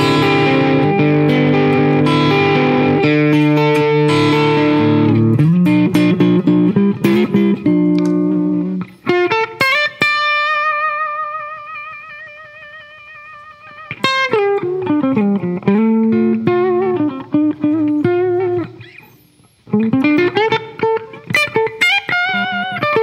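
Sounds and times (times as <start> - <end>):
electric guitar playing: 0.0 - 23.0.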